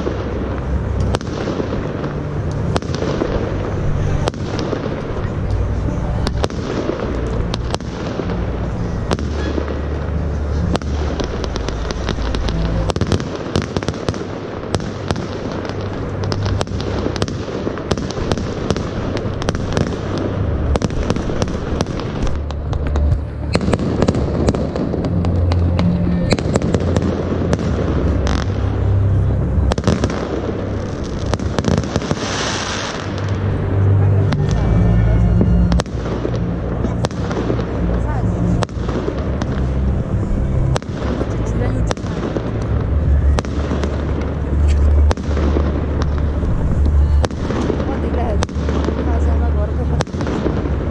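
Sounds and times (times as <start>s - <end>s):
fireworks cracking and banging: 0.0s - 50.9s
music: 0.0s - 50.9s.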